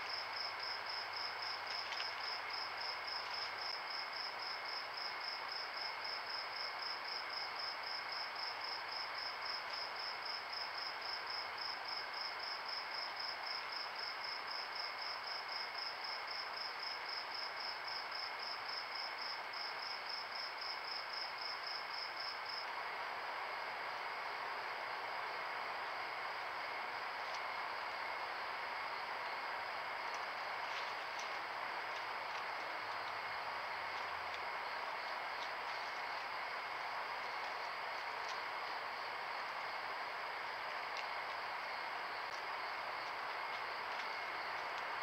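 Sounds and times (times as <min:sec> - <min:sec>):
cricket chirping: 0:00.0 - 0:45.0
low insect tone and hiss: 0:00.0 - 0:45.0.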